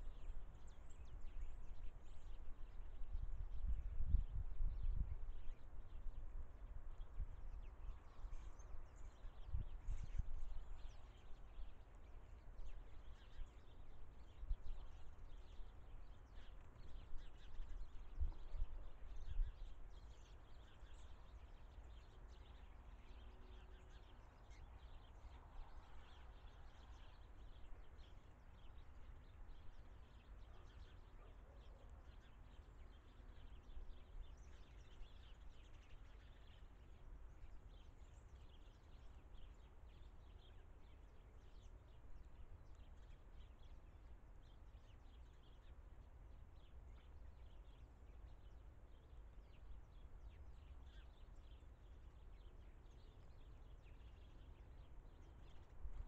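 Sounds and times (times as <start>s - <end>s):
faint bird chirps: 0.0s - 56.0s.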